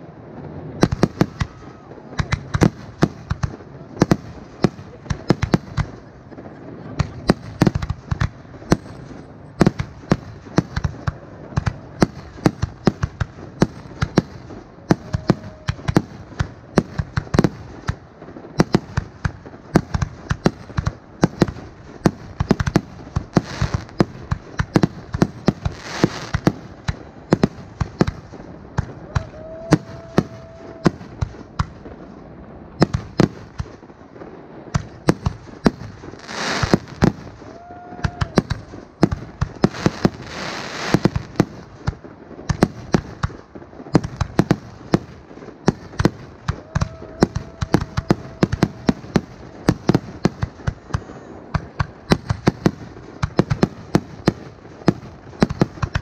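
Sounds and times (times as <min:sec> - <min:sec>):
fireworks bursting: 0:00.0 - 0:56.0
firework hiss: 0:00.6 - 0:56.0.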